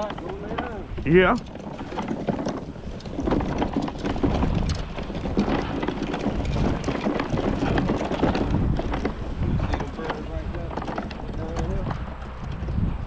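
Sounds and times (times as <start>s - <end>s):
footsteps: 0.0s - 12.9s
fishing gear knocking and rustling: 0.0s - 13.0s
wind rushing over microphone: 0.0s - 13.0s.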